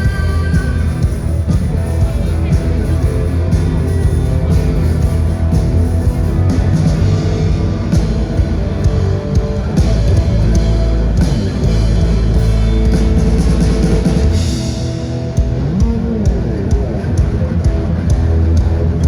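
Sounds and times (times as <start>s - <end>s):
drum and cymbal hits: 0.0s - 19.0s
electric guitar: 0.0s - 19.0s
rock band playing live: 0.0s - 19.0s
sustained bass: 0.0s - 19.0s.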